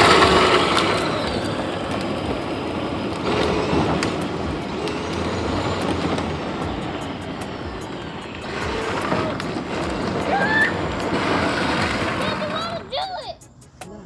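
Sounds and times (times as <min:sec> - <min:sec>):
electric motors running: 0:00.0 - 0:13.4
plastic wheels rumbling: 0:00.0 - 0:13.8.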